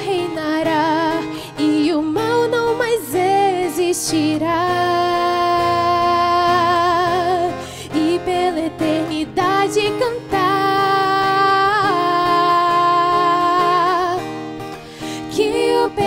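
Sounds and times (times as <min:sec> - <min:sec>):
woman singing slow melody: 0:00.0 - 0:14.3, 0:15.2 - 0:16.0
acoustic guitar: 0:00.0 - 0:16.0.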